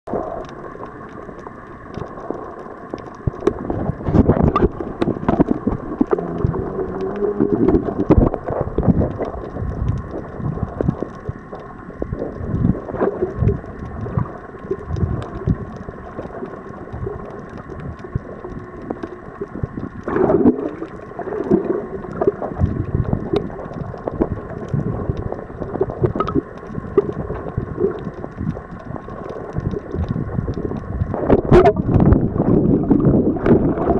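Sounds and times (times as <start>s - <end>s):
faint steady hum: 0.1s - 33.9s
underwater sloshing and gurgling: 0.1s - 33.9s.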